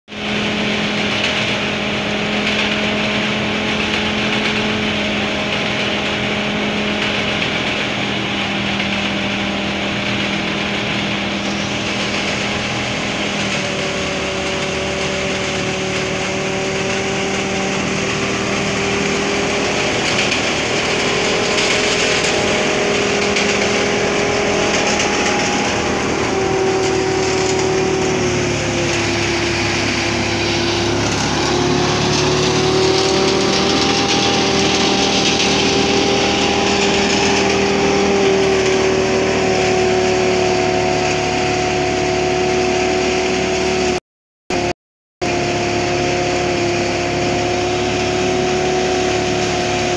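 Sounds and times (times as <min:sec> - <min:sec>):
thresher engine and drum hum: 0:00.1 - 0:49.9.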